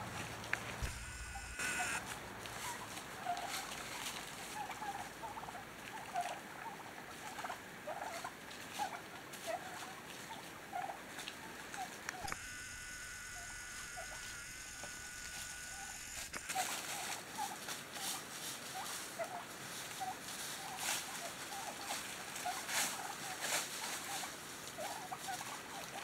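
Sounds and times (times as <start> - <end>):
turkeys calling: 0.8 - 12.4, 13.4 - 26.0.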